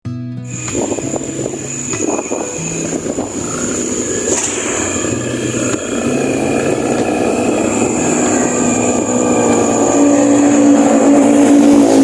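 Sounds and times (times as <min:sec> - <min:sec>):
rushing road noise: 0:00.5 - 0:12.0
vehicle engine running: 0:00.5 - 0:12.0.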